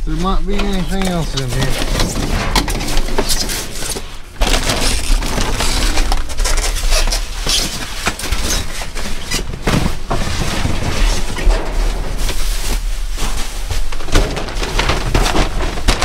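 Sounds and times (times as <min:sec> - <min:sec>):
styrofoam pieces scraping: 0:00.6 - 0:16.0
plastic bags crackling: 0:03.0 - 0:16.0.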